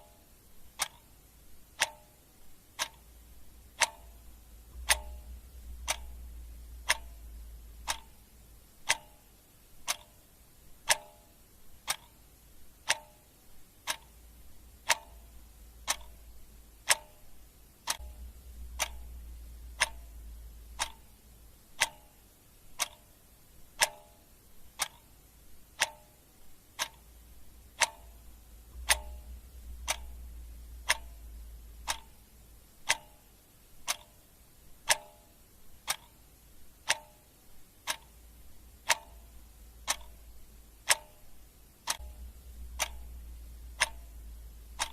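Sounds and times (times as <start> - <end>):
clock ticking: 0.0 - 44.9
faint low hum: 0.0 - 44.9.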